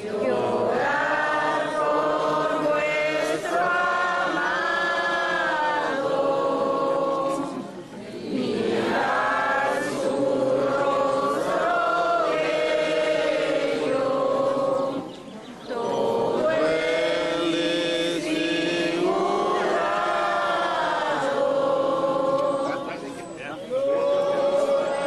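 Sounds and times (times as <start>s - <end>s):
voices singing a slow hymn: 0.0s - 25.0s.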